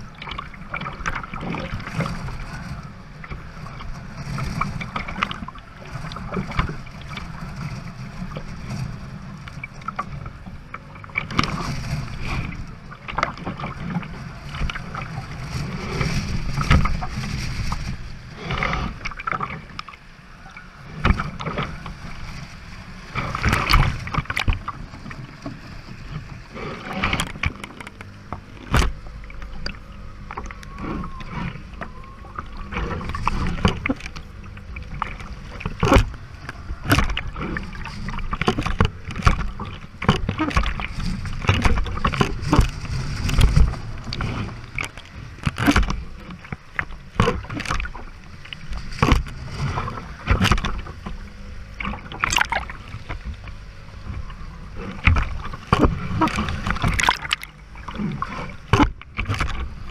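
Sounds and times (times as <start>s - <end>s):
water rushing past hull: 0.0s - 59.9s
waves splashing and thudding: 0.0s - 59.9s
wind rumbling on microphone: 0.0s - 59.9s.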